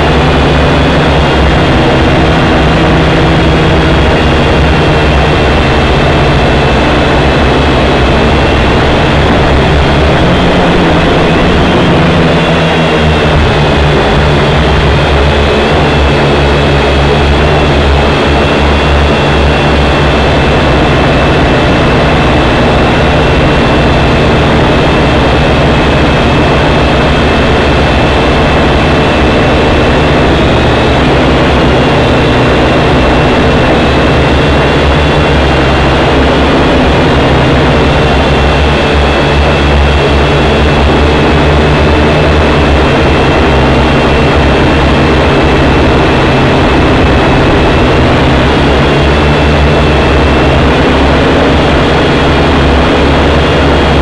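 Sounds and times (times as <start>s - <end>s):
quadcopter motors whirring: 0.0s - 54.0s.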